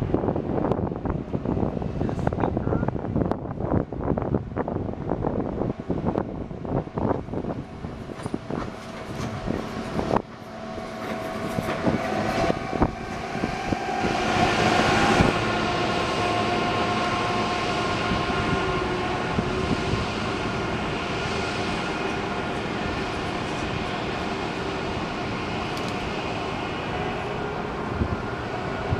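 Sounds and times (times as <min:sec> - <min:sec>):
train rumbling on tracks: 0:00.0 - 0:28.9.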